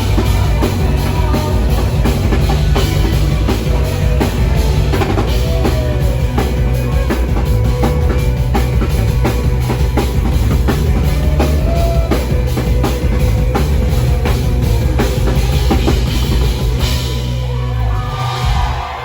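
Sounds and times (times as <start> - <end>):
drum kit beat: 0.0 - 19.0
heavy bass line: 0.0 - 19.0
loud rock music: 0.0 - 19.0.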